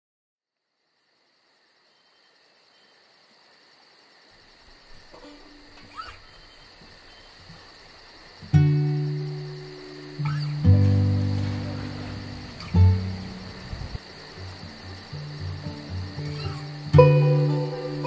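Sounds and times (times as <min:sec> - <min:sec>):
crickets chirping: 0:00.5 - 0:18.0.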